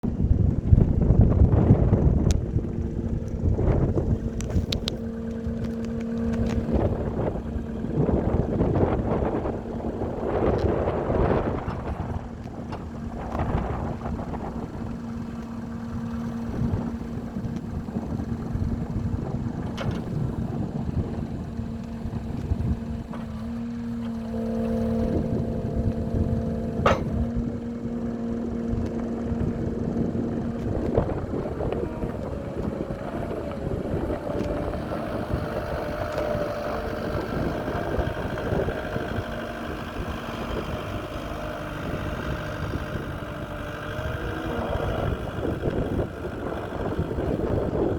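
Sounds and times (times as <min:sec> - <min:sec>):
diesel engine running: 0:00.0 - 0:47.9
wind on microphone: 0:00.0 - 0:47.9.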